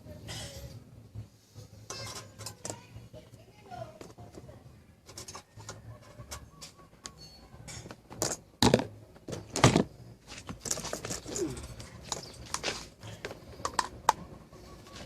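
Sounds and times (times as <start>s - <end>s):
objects being handled: 1.6s - 15.0s.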